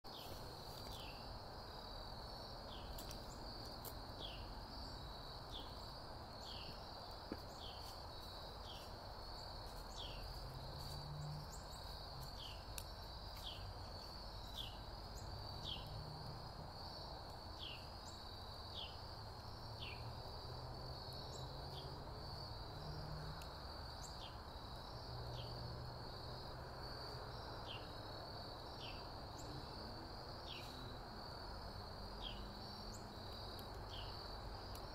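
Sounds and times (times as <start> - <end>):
insects chorus: 0.1 - 34.9.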